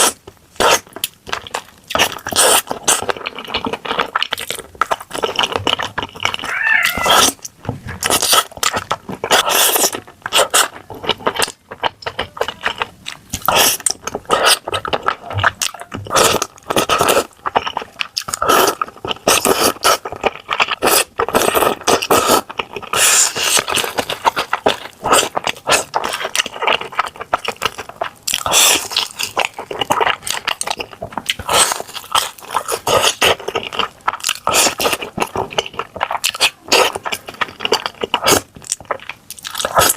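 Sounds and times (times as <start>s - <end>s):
person chewing and crunching: 0.0s - 39.9s.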